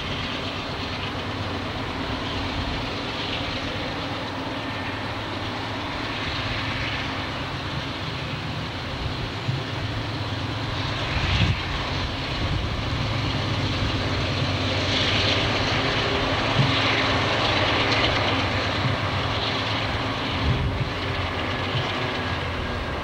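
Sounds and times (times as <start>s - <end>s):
diesel locomotive engines droning: 0.0s - 23.0s.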